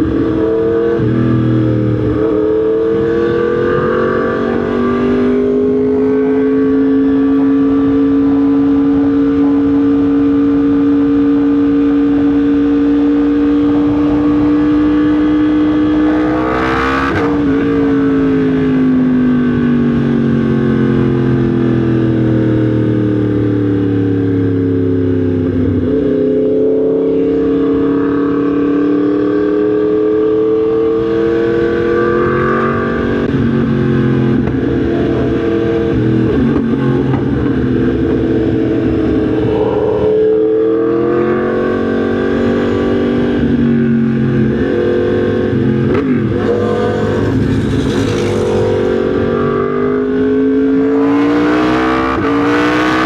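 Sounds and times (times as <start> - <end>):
motorcycle engine on the road: 0.0 - 53.0.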